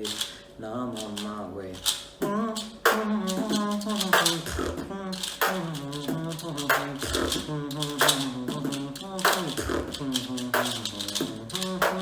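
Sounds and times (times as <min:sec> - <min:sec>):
beatboxing drum hits: 0:02.1 - 0:12.0
person humming a melody: 0:02.2 - 0:12.0.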